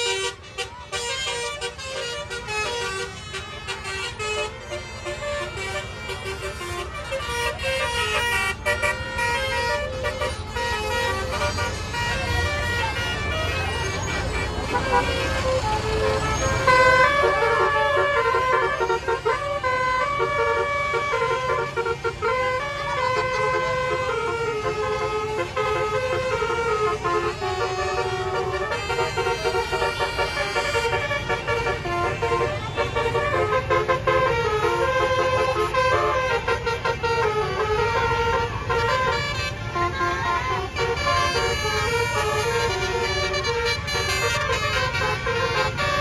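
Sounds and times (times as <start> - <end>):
bus horn playing melody: 0.0 - 46.0
engines rumbling on road: 0.0 - 46.0.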